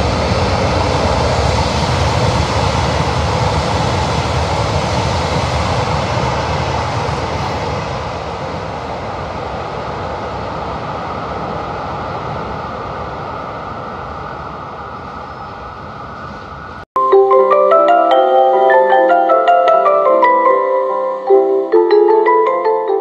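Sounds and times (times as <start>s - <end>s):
diesel train passing: 0.0s - 16.8s, 17.5s - 23.0s.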